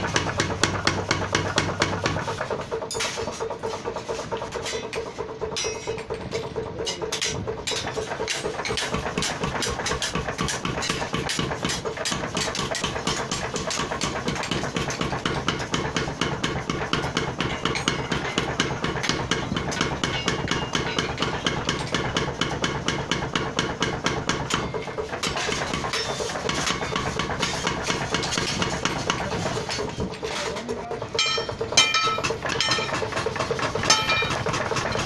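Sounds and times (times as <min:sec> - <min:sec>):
power hammer pounding steel: 0:00.0 - 0:35.0.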